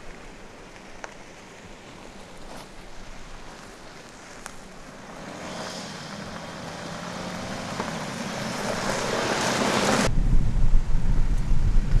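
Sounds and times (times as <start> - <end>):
tyres on loose dirt: 0.0 - 10.1
car engine hum: 1.7 - 12.0.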